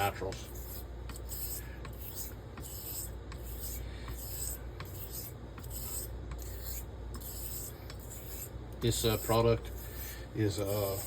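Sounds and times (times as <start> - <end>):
razor swishing on whetstone: 0.4 - 11.0.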